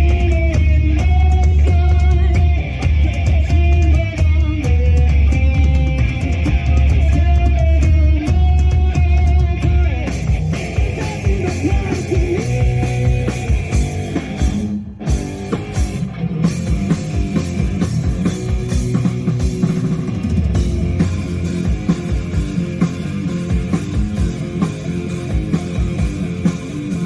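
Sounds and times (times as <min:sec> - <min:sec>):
bass guitar: 0:00.0 - 0:27.0
drums: 0:00.0 - 0:27.0
electric guitar: 0:00.0 - 0:27.0
live rock band playing: 0:00.0 - 0:27.0.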